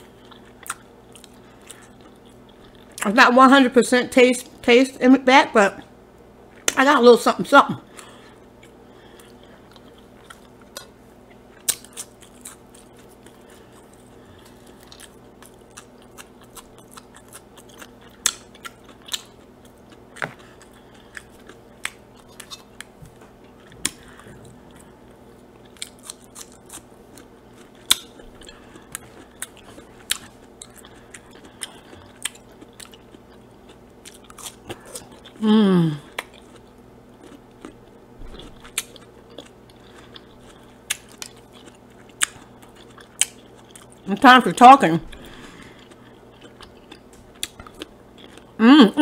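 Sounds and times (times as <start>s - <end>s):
person chewing food: 0.0s - 3.0s, 7.8s - 44.1s, 45.1s - 48.6s
faint low hum: 0.0s - 49.0s.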